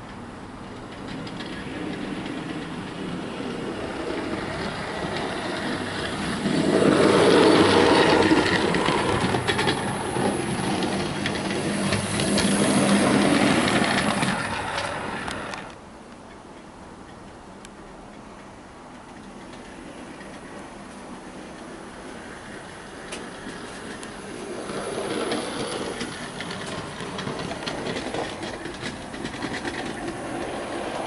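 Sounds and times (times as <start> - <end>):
model train wheels clicking: 0.0 - 31.0.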